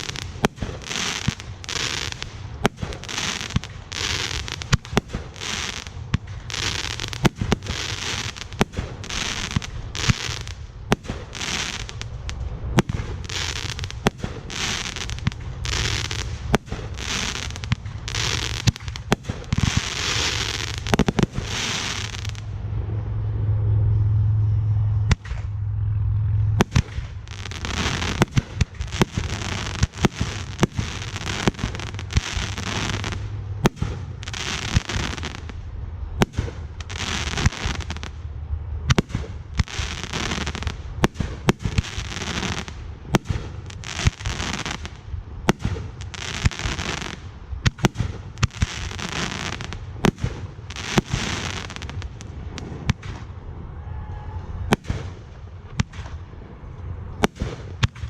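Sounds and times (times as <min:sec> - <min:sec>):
fireworks hissing: 0:00.0 - 0:22.5, 0:26.6 - 0:35.6, 0:36.2 - 0:38.2, 0:38.9 - 0:53.3
fireworks bangs: 0:00.0 - 0:23.1, 0:24.4 - 0:25.7, 0:26.4 - 0:38.3, 0:38.9 - 0:58.0.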